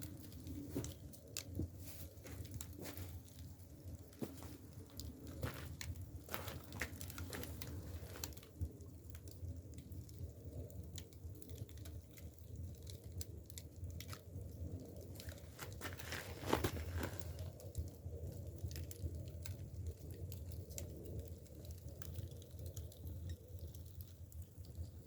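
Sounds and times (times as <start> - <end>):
fire crackling and snapping: 0.0 - 25.0
fire rumbling: 0.0 - 25.0.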